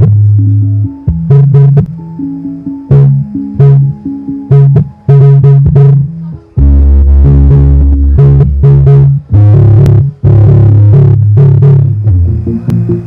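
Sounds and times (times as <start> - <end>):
deep bass line: 0.0 - 13.0
electronic music through subwoofer: 0.0 - 13.0.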